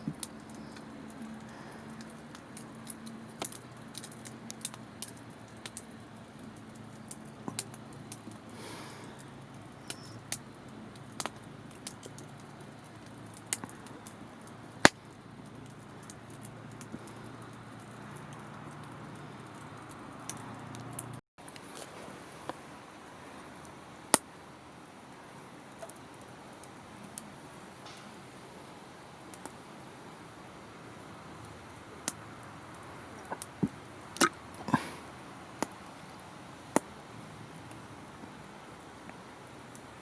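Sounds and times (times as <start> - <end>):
wood campfire crackling: 0.0 - 40.0.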